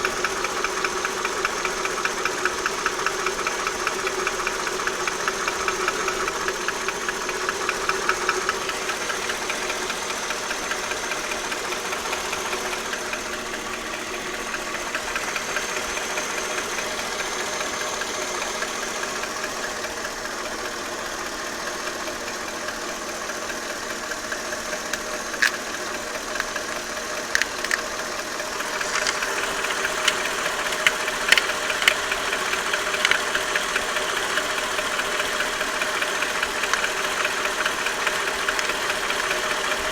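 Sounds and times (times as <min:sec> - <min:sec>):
car engine idling: 0:00.0 - 0:39.9
engine knocking: 0:00.0 - 0:39.9.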